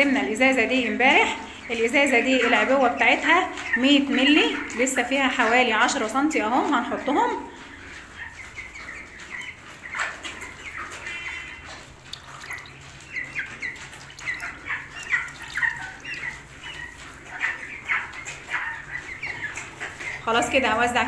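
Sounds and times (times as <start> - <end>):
chicks peeping and squawking: 0.0 - 21.0.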